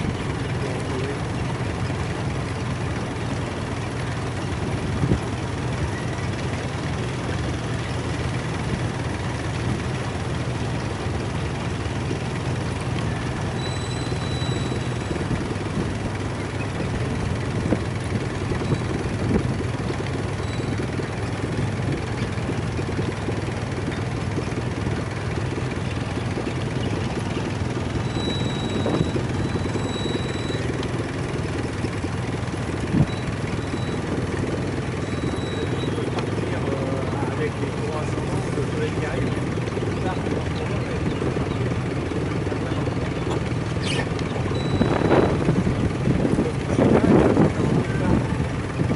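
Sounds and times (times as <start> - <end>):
boat engine humming: 0.0 - 48.9.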